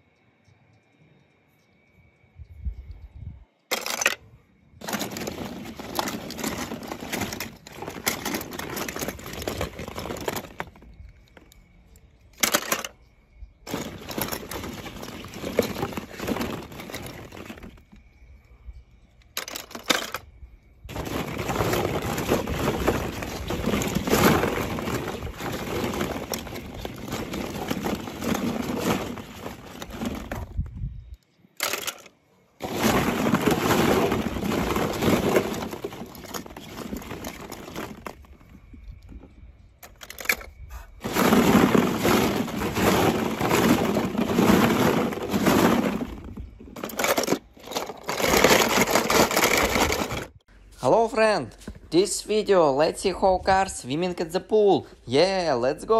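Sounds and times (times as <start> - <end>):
toy cars clinking and rattling: 3.6 - 18.4, 19.2 - 30.7, 31.6 - 50.4.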